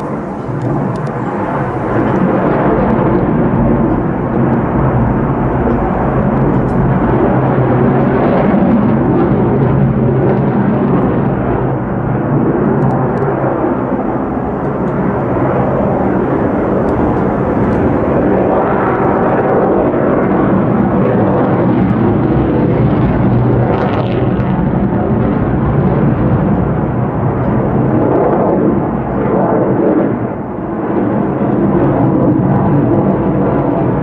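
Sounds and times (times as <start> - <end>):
fighter jet engine roar: 0.0 - 34.0.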